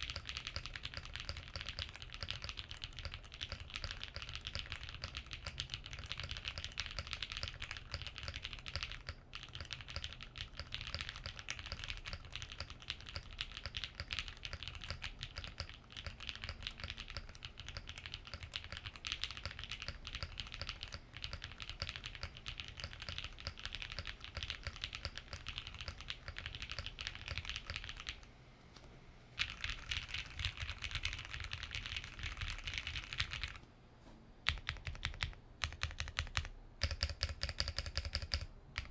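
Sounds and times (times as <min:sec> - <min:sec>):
fast mechanical keyboard typing: 0:00.0 - 0:28.3, 0:29.4 - 0:33.6, 0:34.4 - 0:38.9.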